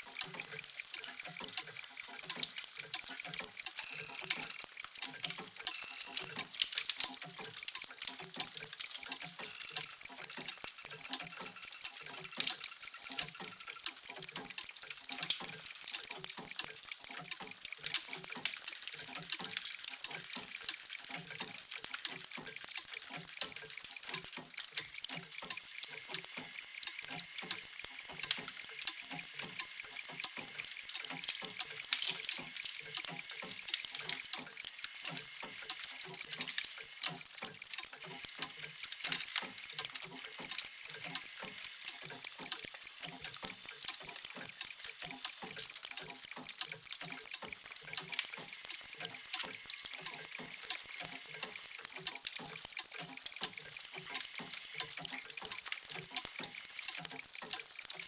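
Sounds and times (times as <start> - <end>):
mechanical clocks ticking: 0.0 - 58.0.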